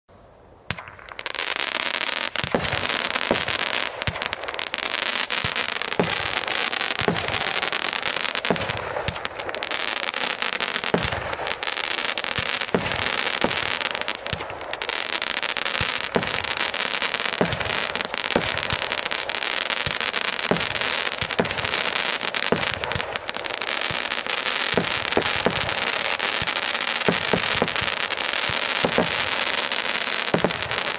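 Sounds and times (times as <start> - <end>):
hiss of burning fireworks: 0.1 - 30.9.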